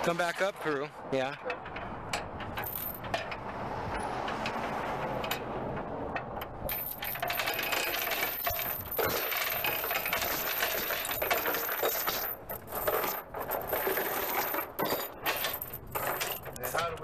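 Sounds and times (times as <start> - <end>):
metal chain rattling: 1.3 - 17.0.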